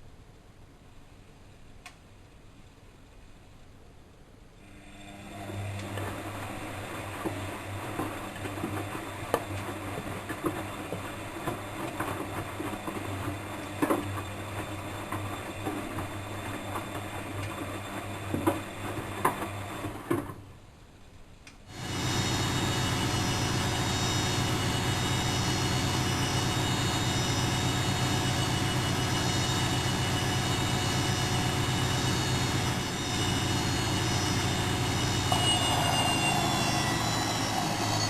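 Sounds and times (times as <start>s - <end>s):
washing machine motor humming: 4.6s - 20.5s, 21.7s - 38.0s.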